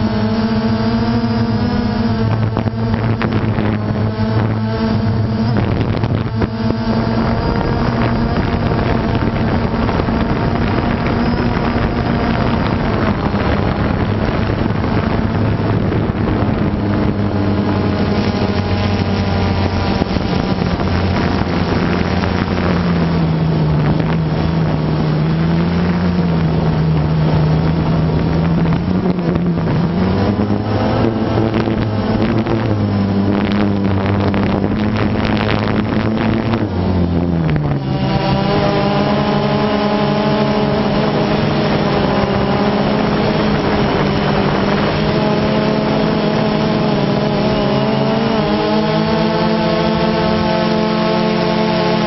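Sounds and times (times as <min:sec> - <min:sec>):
drone propellers buzzing: 0:00.0 - 0:52.0.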